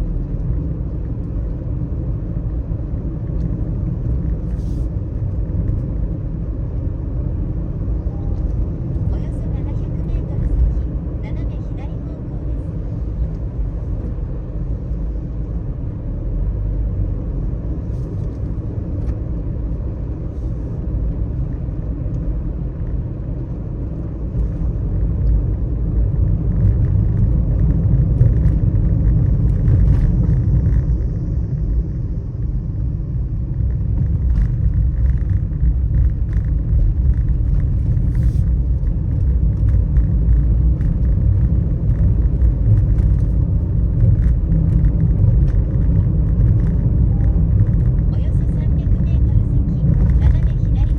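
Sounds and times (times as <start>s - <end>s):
car driving on wet road: 0.0s - 50.9s.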